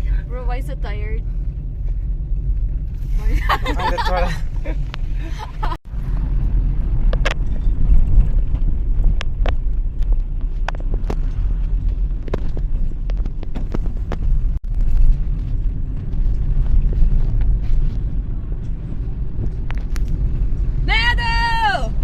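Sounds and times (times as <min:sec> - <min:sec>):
car driving on road: 0:00.0 - 0:22.0.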